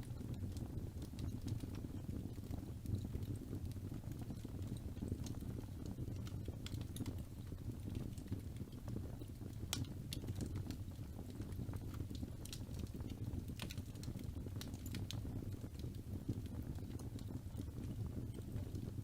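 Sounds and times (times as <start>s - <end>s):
fire crackles and pops: 0.0s - 19.0s
fireplace fire rumbling: 0.0s - 19.0s.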